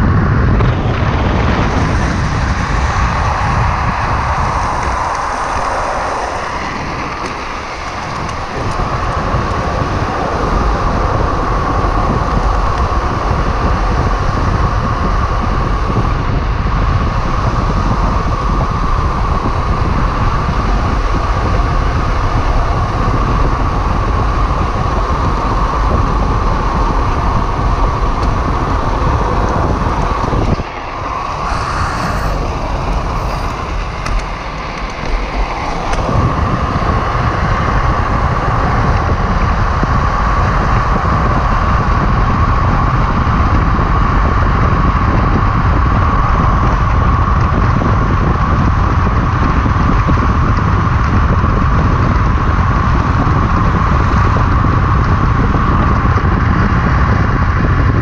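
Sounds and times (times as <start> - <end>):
wheels rolling on asphalt: 0.0 - 58.0
wind rushing over microphone: 0.0 - 58.0.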